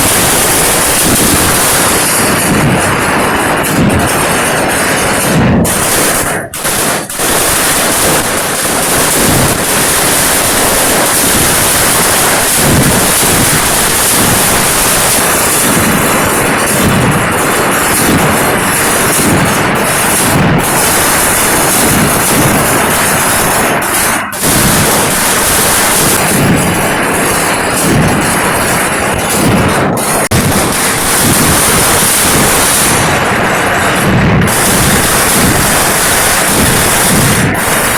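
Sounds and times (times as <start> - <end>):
rapid fireworks explosions: 0.0 - 37.9.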